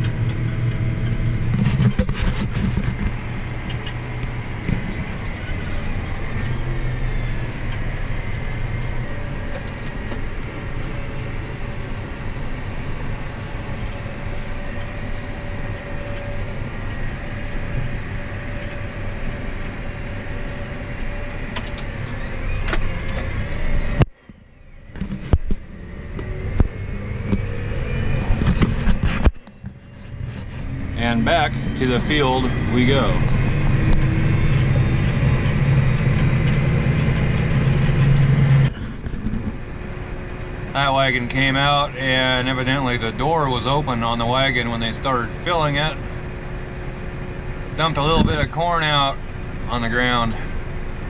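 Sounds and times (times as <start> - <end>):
vehicle engine running: 0.0 - 51.0
faint high whine: 0.1 - 51.0.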